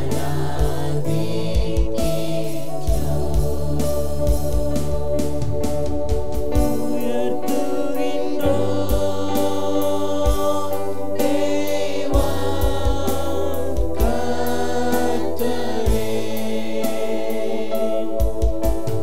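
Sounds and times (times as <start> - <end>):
bass notes: 0.0 - 18.9
choir singing gospel song: 0.0 - 19.0
drum beats: 0.0 - 19.0
keyboard chords: 0.0 - 19.0.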